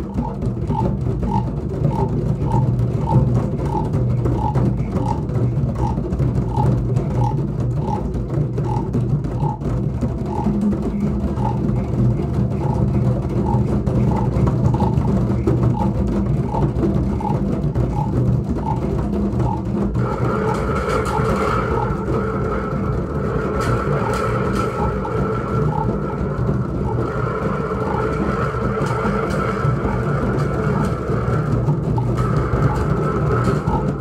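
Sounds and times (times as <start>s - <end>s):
children drumming low rumble: 0.0s - 34.0s.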